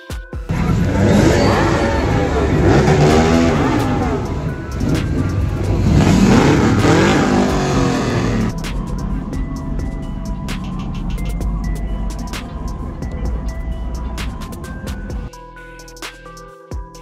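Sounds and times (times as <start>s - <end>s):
truck engine revving: 0.5s - 15.3s.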